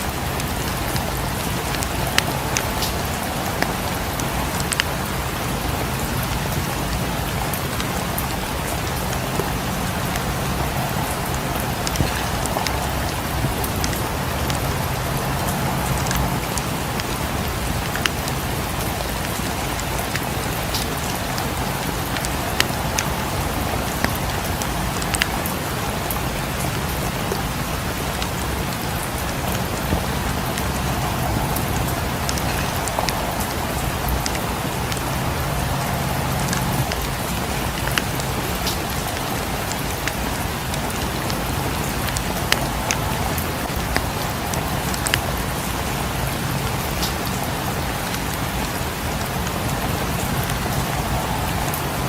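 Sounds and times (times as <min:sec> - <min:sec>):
fireplace crackling: 0:00.0 - 0:52.0
rain falling: 0:00.0 - 0:52.0.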